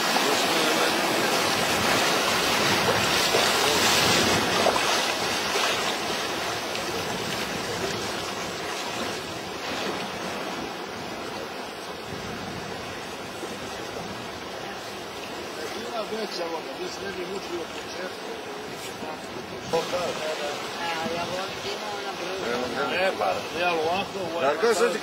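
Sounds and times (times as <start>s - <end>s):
river rapids rushing and splashing: 0.0s - 25.0s.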